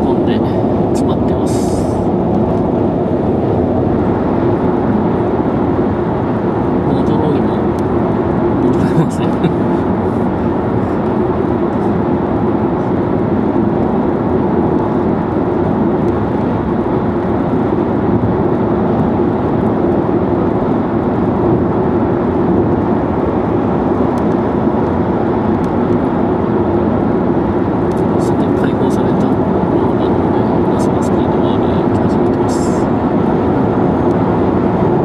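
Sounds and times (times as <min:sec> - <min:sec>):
car tyre and wind noise: 0:00.0 - 0:35.0.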